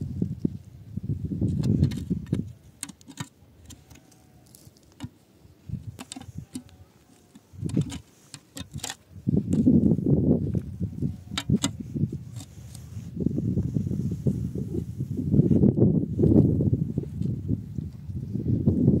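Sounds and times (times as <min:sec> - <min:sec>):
hand scraping stony soil: 0:00.0 - 0:16.5.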